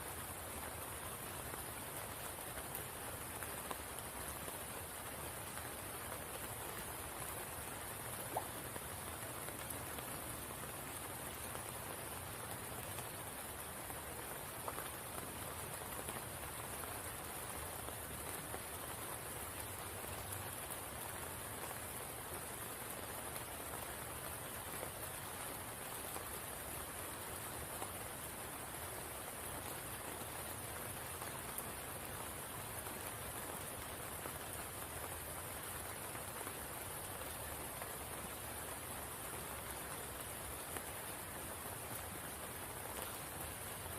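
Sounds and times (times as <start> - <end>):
rain on water and leaves: 0.0 - 43.9.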